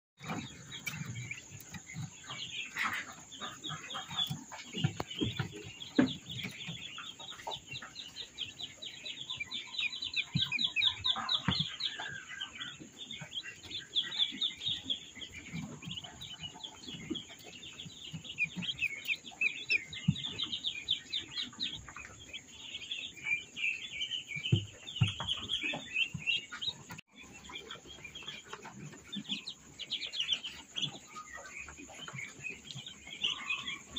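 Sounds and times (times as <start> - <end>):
ducklings peeping: 0.2 - 33.9.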